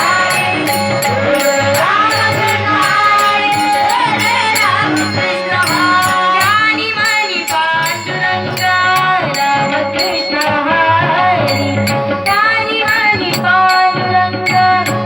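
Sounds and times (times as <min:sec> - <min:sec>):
instrumental accompaniment: 0:00.0 - 0:15.0
percussion beat: 0:00.0 - 0:15.0.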